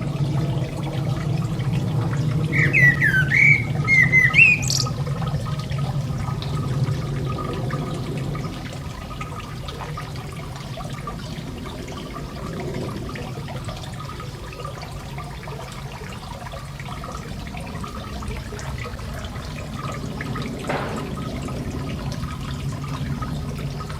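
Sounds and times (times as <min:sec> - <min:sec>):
garden fountain splashing: 0:00.0 - 0:23.9.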